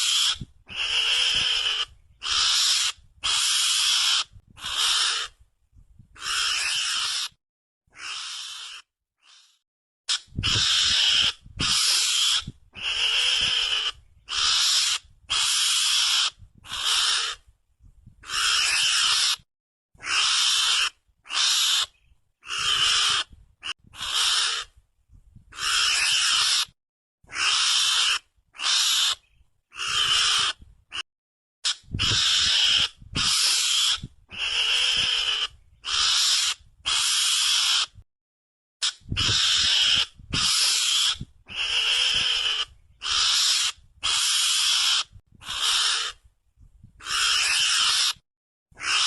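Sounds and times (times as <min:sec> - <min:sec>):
mongoose calls harsh hissing: 0:00.0 - 0:05.4, 0:06.2 - 0:17.4, 0:18.2 - 0:19.4, 0:20.0 - 0:23.3, 0:24.0 - 0:24.7, 0:25.5 - 0:26.7, 0:27.3 - 0:31.0, 0:31.6 - 0:38.0, 0:38.8 - 0:46.2, 0:47.0 - 0:48.2, 0:48.8 - 0:49.0.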